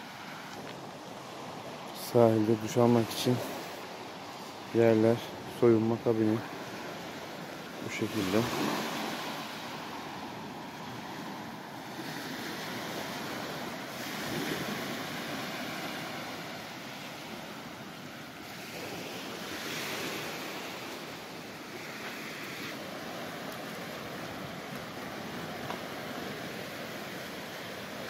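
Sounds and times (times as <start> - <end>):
waves breaking on a beach: 0.0 - 28.0.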